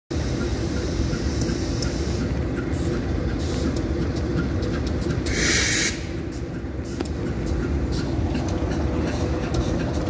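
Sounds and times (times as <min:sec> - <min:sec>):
locomotive engines rumbling: 0:00.1 - 0:10.0.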